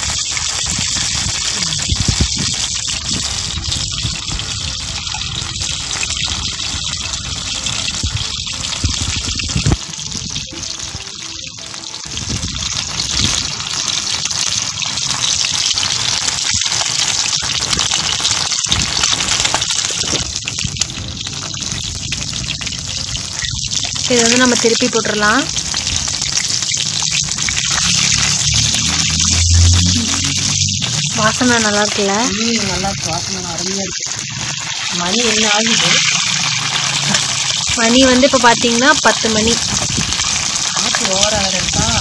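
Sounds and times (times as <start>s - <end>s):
fish sizzling in oil: 0.0s - 42.0s.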